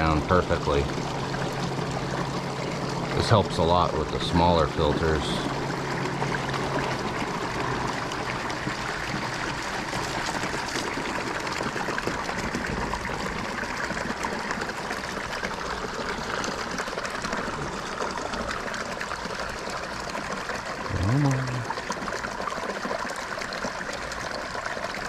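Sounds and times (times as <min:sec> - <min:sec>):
water splashing into a tank: 0:00.0 - 0:25.0.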